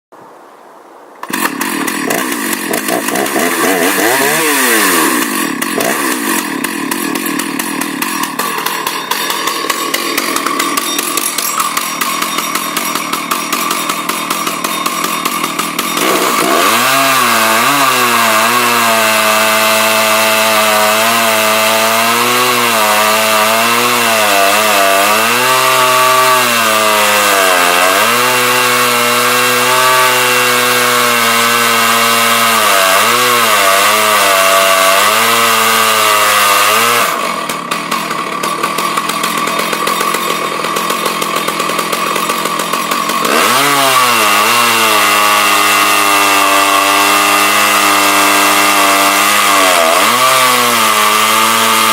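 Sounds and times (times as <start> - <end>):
chainsaw cutting wood: 1.2 - 51.9.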